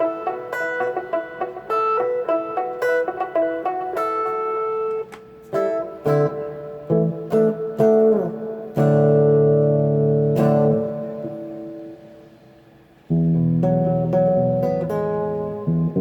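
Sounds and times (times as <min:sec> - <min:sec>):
electric guitar chords ringing: 0:00.0 - 0:16.0.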